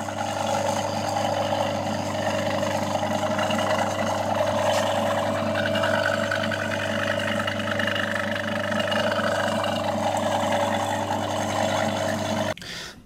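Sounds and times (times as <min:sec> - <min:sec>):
electric motor humming: 0:00.0 - 0:12.6.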